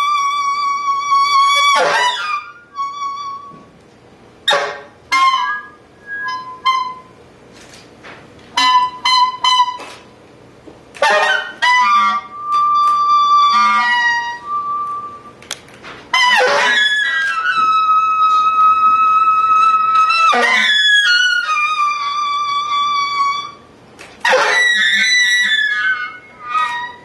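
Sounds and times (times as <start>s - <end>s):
wind instrument playing: 0.0s - 3.8s, 4.4s - 7.2s, 8.6s - 10.1s, 11.0s - 27.0s.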